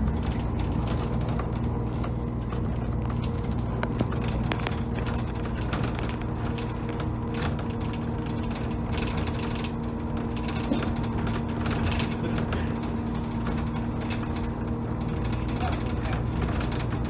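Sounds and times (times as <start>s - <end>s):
bus body rattling: 0.0s - 17.0s
bus engine drone: 0.0s - 17.0s.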